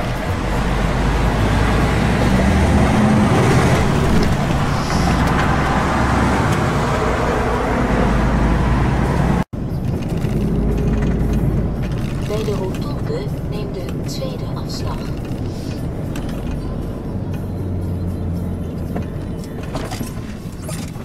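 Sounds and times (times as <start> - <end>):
low engine hum: 0.0 - 21.0
road rumble and tyre hiss: 0.0 - 21.0.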